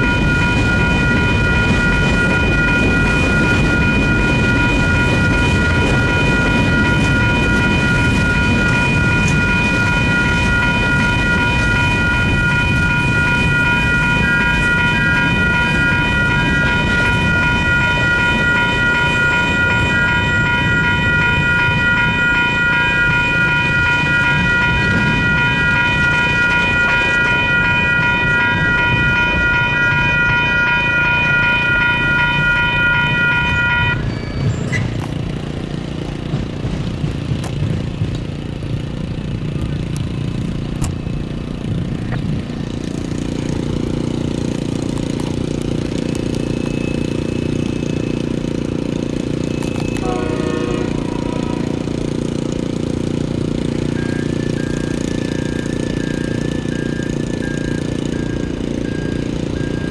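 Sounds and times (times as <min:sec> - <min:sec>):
electronic crossing bell ringing: 0:00.0 - 0:36.6, 0:38.4 - 0:59.9
freight cars rumbling and clattering: 0:00.0 - 0:59.9.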